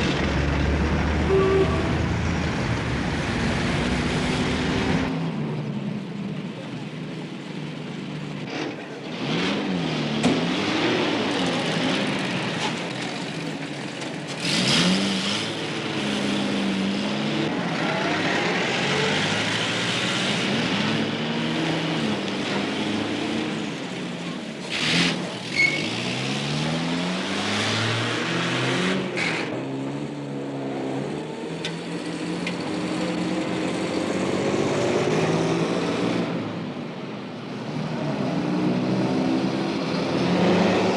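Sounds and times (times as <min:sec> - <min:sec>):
steady traffic rushing noise: 0:00.0 - 0:40.9
sudden loud traffic noises: 0:00.0 - 0:40.9
vehicles accelerating and passing: 0:00.0 - 0:40.9.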